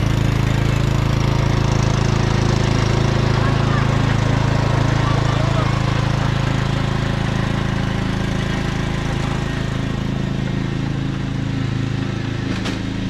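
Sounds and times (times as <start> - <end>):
riding lawn mower engine running: 0.0 - 13.0.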